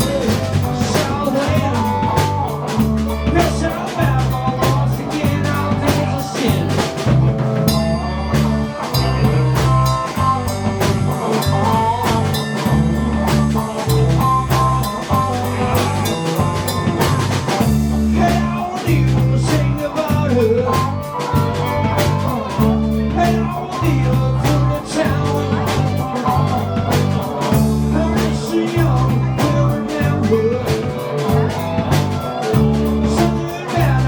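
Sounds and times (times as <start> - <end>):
drum kit beat: 0.0 - 34.0
live rock blues band: 0.0 - 34.0.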